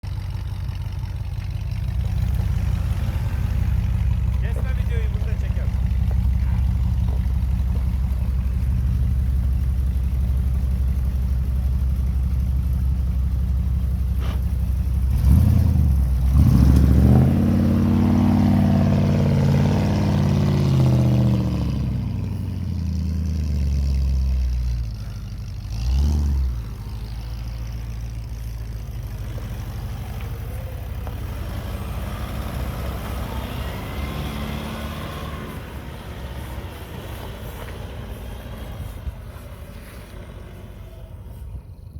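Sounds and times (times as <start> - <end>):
heavy engine revving: 1.8 - 11.0, 14.0 - 41.9.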